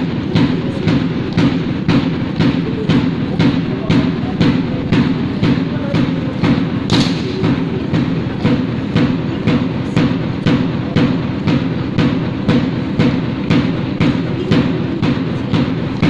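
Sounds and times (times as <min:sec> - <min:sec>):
drum cadence: 0:00.0 - 0:16.0.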